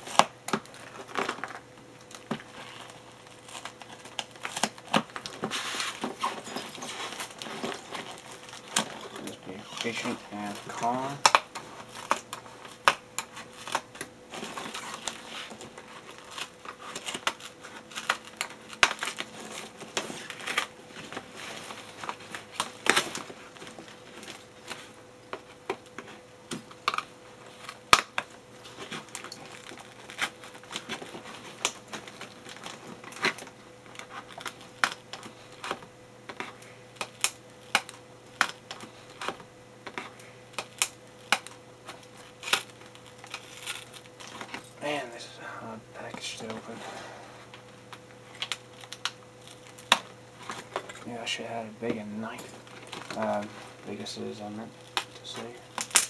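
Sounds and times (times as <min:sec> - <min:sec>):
packing tape crackling: 0:00.0 - 0:45.2, 0:47.5 - 0:56.0.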